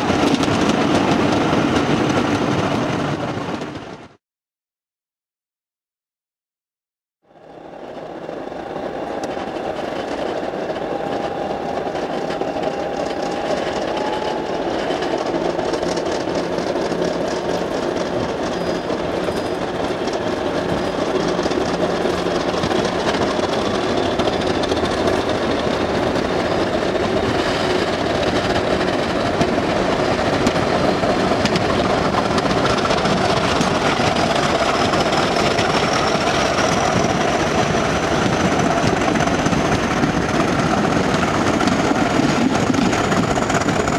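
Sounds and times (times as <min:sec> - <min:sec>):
diesel locomotive engine: 0:00.0 - 0:04.2, 0:07.2 - 0:43.9.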